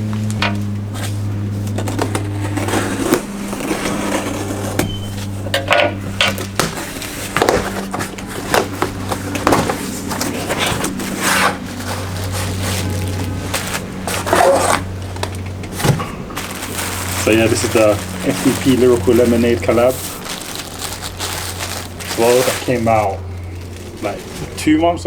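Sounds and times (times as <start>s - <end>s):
steady low hum: 0.0s - 25.0s
packaging and clothing rustling: 0.3s - 25.0s.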